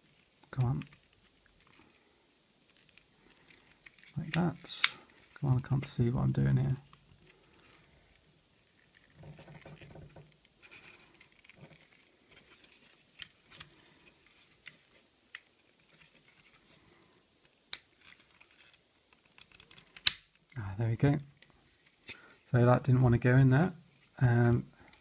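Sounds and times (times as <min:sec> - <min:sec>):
plastic toy rustling: 0:00.0 - 0:20.5, 0:21.3 - 0:22.6.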